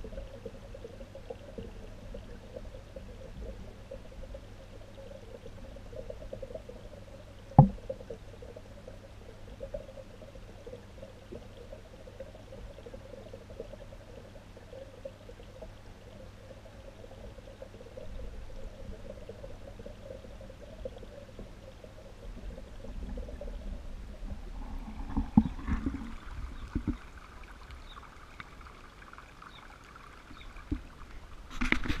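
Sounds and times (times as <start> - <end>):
low steady hum: 0.0 - 32.0
muffled running water underwater: 0.0 - 32.0.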